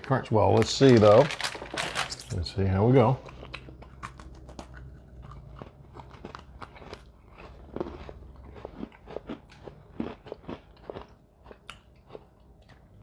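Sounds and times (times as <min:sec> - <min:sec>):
cookie crunching while chewed: 0:00.0 - 0:13.0.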